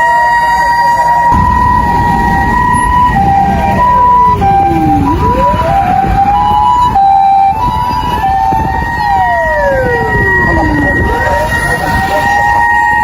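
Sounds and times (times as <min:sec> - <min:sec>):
two-tone electronic siren: 0:00.0 - 0:13.0.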